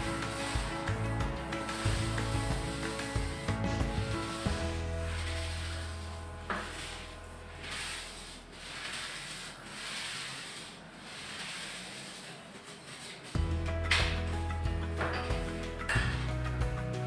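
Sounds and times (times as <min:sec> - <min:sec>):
paint roller swishing on wall: 0:00.0 - 0:17.0.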